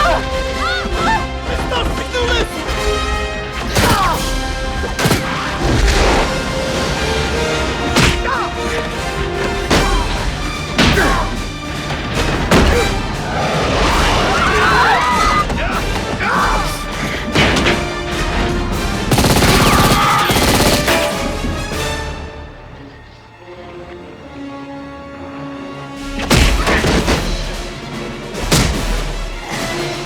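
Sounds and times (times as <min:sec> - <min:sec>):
dramatic orchestral score: 0:00.0 - 0:30.0.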